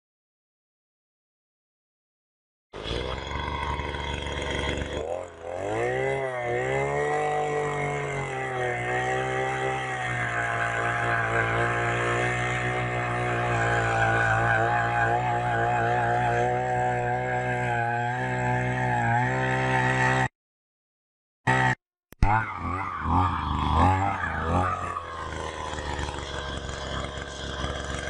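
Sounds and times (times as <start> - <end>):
two-stroke auger engine revving: 2.8 - 20.3, 21.5 - 28.0.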